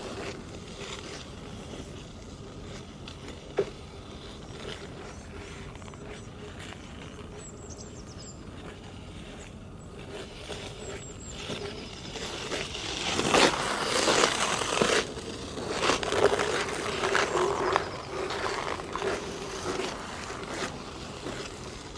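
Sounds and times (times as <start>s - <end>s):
ice skate blades scraping: 0.0s - 21.9s.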